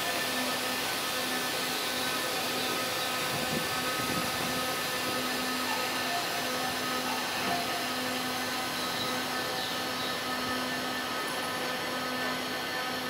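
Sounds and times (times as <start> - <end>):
train equipment whirring hum: 0.0 - 13.0.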